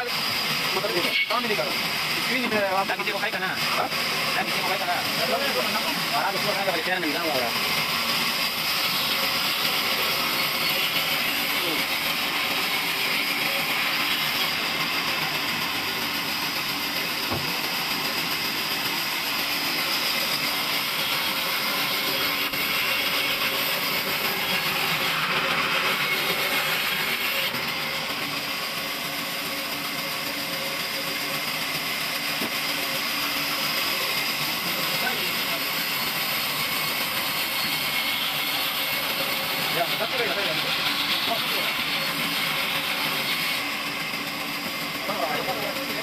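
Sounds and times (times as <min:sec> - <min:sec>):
band saw cutting wood: 0:00.0 - 0:46.0.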